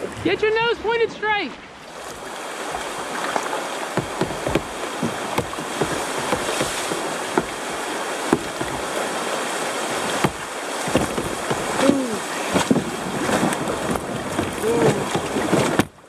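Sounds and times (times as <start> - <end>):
river rapids rushing: 0.0 - 15.8
paddle splashes and knocks: 1.5 - 16.0.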